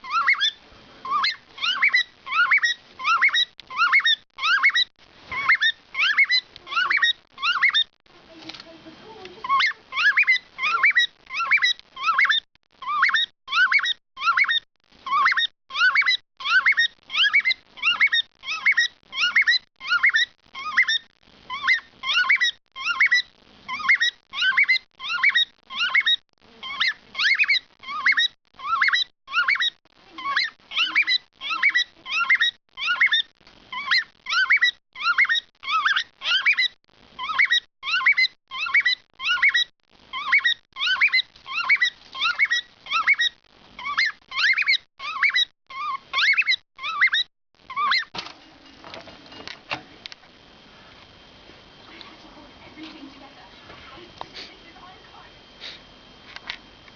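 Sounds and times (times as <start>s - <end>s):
cockatiel whistling: 0.0s - 7.9s, 9.5s - 48.1s.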